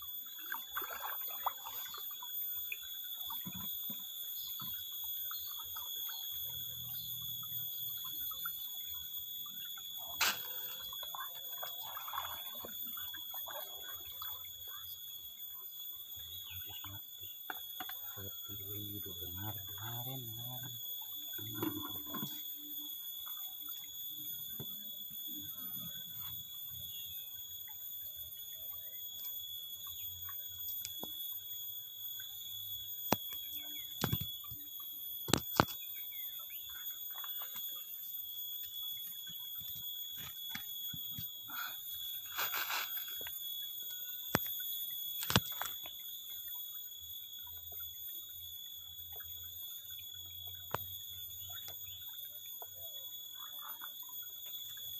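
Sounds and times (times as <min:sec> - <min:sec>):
high-pitched whine: 0:00.0 - 0:54.6.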